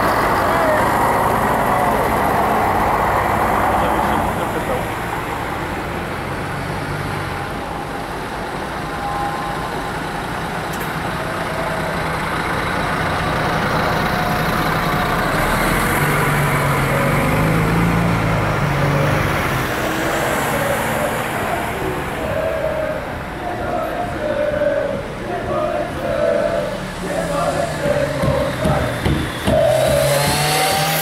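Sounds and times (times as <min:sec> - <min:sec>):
buses and van driving past: 0:00.0 - 0:31.0.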